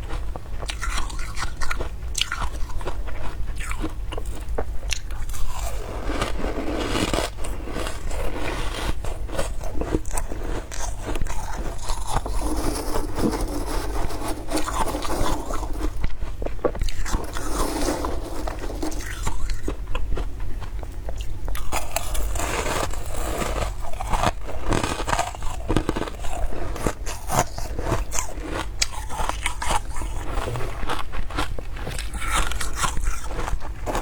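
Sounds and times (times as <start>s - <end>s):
crunching frost while chewing: 0.0s - 34.0s.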